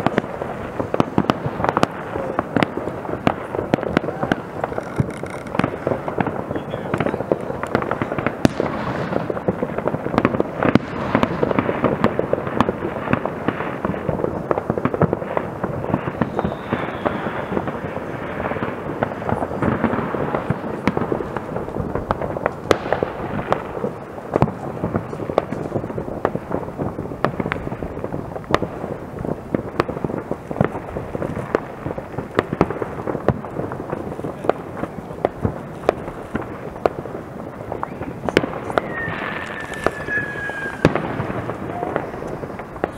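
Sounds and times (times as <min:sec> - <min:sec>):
distant fireworks bangs and crackles: 0:00.0 - 0:42.9
sharp firework reports: 0:00.0 - 0:42.9.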